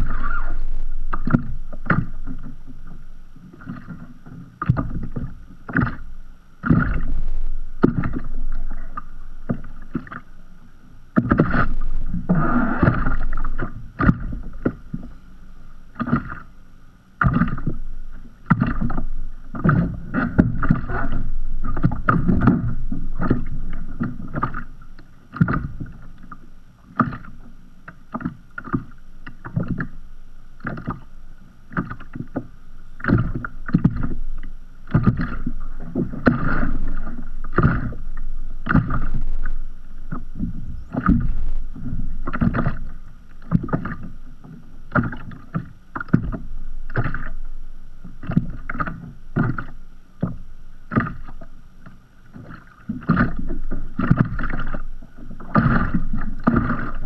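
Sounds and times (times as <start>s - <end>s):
waves slapping against kayak hull: 0.0s - 10.4s, 11.1s - 15.2s, 15.9s - 16.6s, 17.2s - 30.0s, 30.6s - 31.1s, 31.7s - 57.0s
low wash of water: 0.0s - 57.0s.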